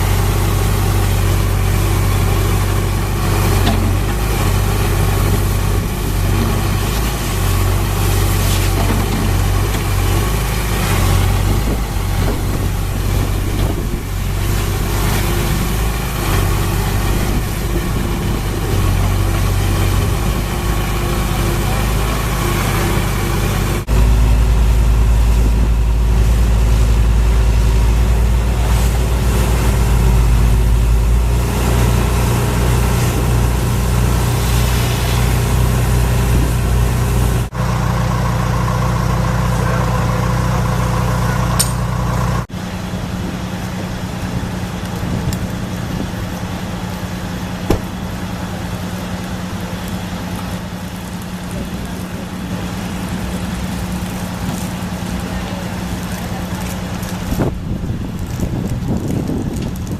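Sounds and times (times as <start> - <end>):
heavy truck engines idling: 0.0 - 59.9.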